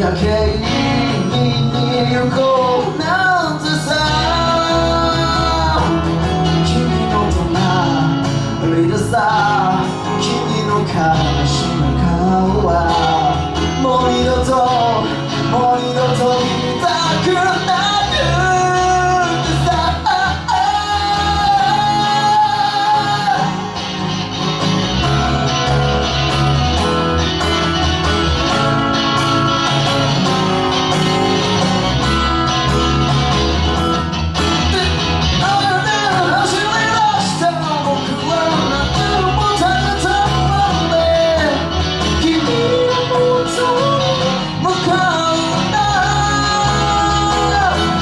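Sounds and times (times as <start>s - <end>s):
acoustic guitar strumming: 0.0s - 48.0s
electric bass: 0.0s - 48.0s
electric guitar: 0.0s - 48.0s.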